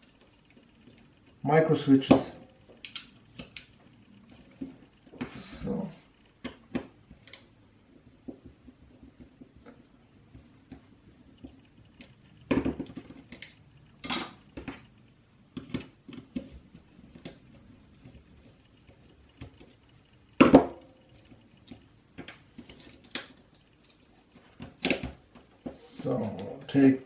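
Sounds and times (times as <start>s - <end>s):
plastic parts clicking and knocking: 2.1s - 5.3s, 6.4s - 26.5s.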